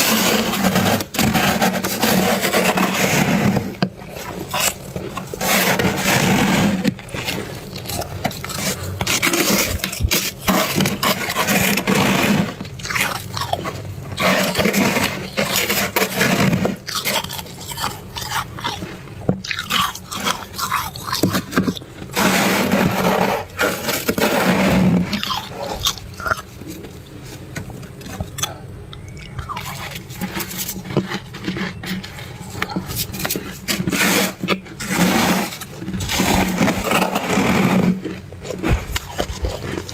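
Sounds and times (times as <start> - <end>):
frost being scraped: 0.0 - 28.2, 29.3 - 39.9
chewing crunchy frost: 0.0 - 39.9.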